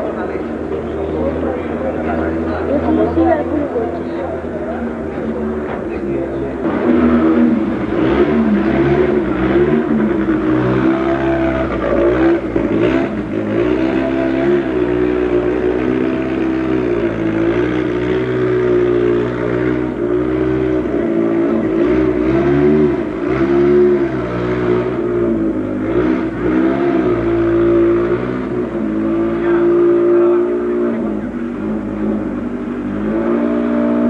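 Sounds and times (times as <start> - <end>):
race car engine revving: 0.0 - 34.0.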